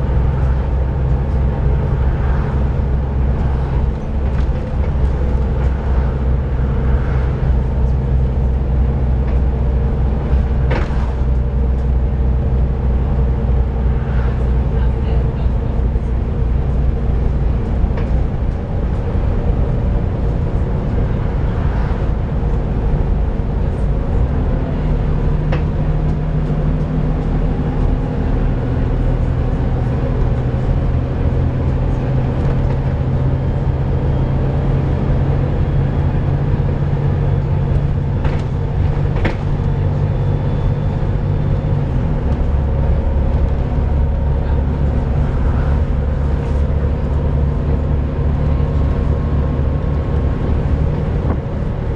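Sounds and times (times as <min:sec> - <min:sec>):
bus engine running: 0:00.0 - 0:51.9.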